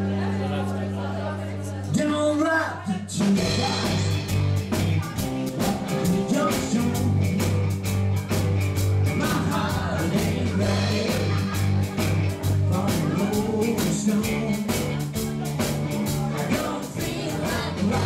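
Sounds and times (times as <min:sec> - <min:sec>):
person singing: 0:00.0 - 0:08.0, 0:09.0 - 0:18.0
bass and electric guitar: 0:00.0 - 0:18.0
drums steady beat: 0:03.1 - 0:18.0.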